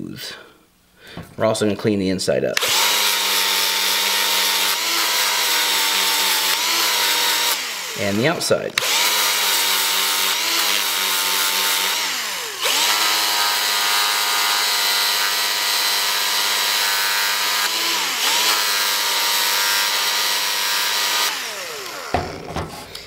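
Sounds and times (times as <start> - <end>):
polisher motor whine: 2.6 - 23.0.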